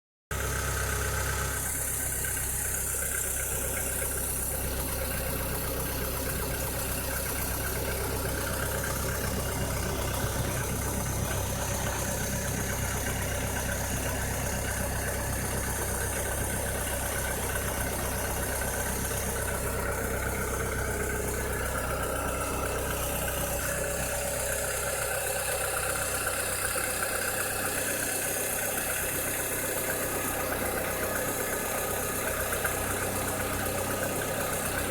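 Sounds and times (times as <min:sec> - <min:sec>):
abnormal engine noise: 0:00.3 - 0:34.9
car engine idling: 0:00.3 - 0:34.9.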